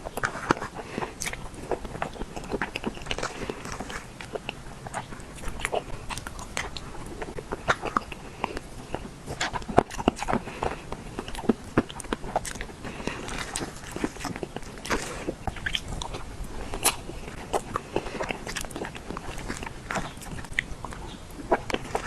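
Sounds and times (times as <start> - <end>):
mouth chewing clicks and smacks: 0.0 - 22.0.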